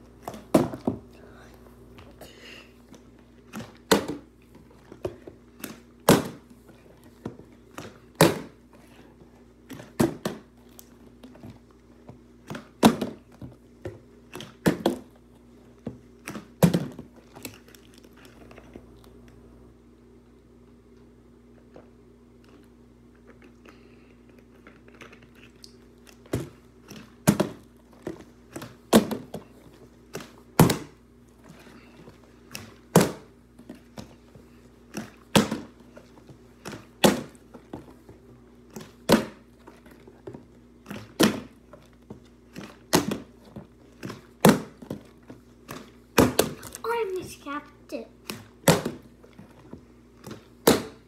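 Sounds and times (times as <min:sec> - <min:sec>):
ceiling fan humming: 0:00.0 - 0:51.0.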